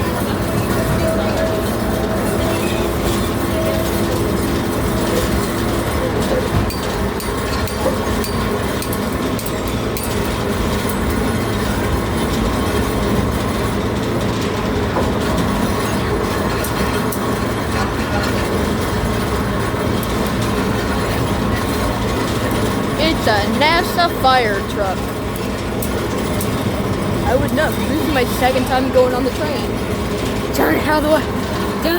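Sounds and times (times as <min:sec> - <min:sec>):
train rumbling along track: 0:00.0 - 0:31.9.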